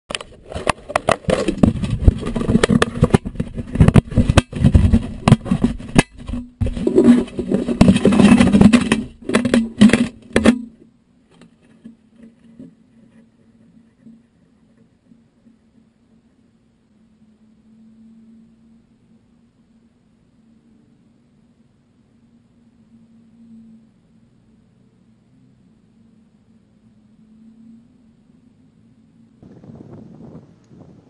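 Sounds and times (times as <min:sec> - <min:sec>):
faint low hum: 0:00.1 - 0:31.0.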